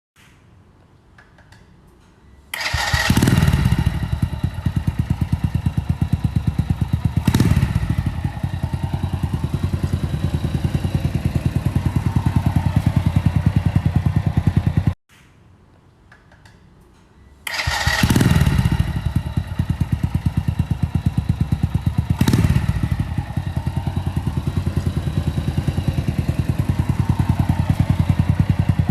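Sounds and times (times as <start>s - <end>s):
motorcycle engine starting and idling: 2.4s - 15.0s, 17.4s - 28.9s.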